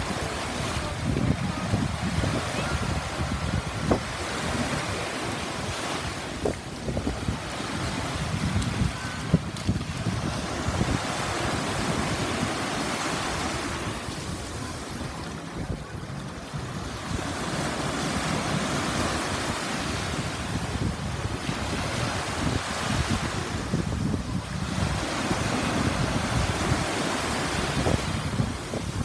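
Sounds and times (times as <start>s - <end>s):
small waves washing on beach: 0.0s - 29.0s
wind buffeting microphone: 0.0s - 29.0s.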